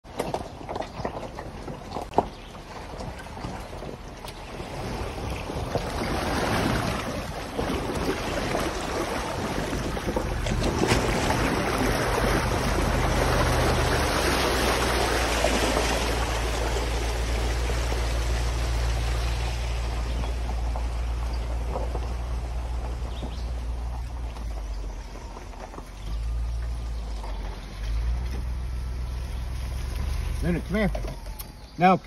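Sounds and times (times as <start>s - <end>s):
water splashing and rushing: 0.0s - 32.0s
vehicle engine drone: 1.9s - 32.0s.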